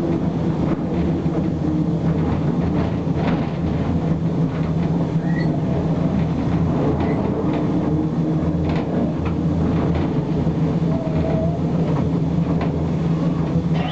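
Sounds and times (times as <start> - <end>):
diesel locomotive engine humming: 0.0 - 13.9.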